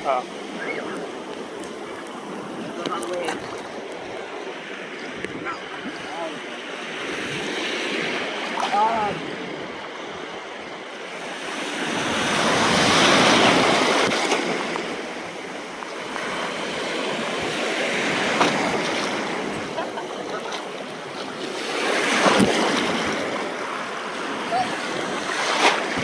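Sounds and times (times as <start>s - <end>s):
ocean surf breaking on a beach: 0.0s - 26.0s.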